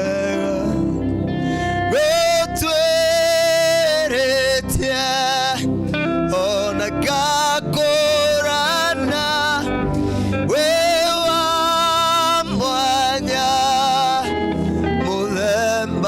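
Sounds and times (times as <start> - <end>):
instrumental backing music: 0.0 - 16.0
person singing with vibrato: 0.0 - 16.0.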